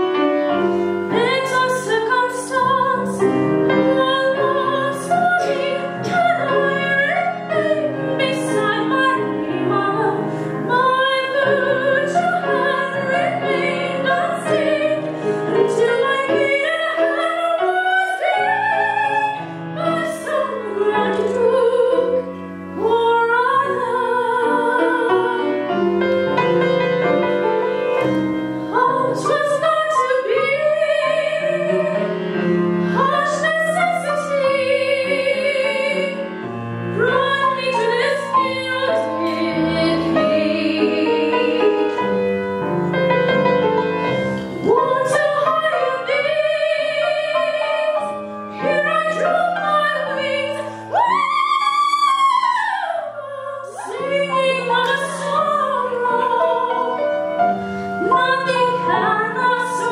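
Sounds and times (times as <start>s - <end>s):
grand piano accompaniment: 0.0s - 59.9s
soprano singing opera: 0.9s - 26.1s, 28.7s - 42.3s, 44.1s - 57.2s, 58.0s - 59.9s.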